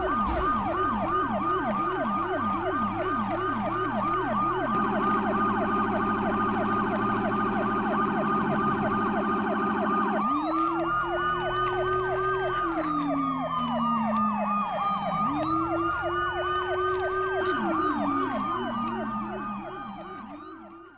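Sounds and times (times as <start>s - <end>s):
toy truck electronic sirens: 0.0s - 20.9s.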